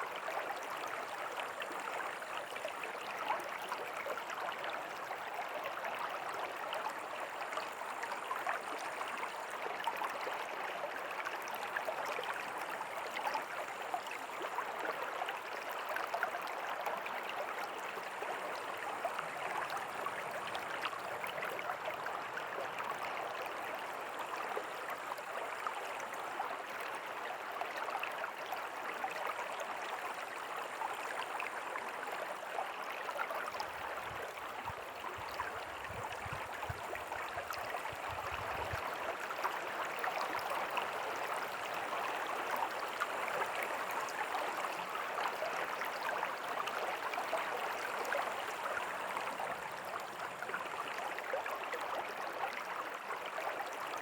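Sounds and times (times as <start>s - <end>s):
stream flowing over stones: 0.0s - 54.0s.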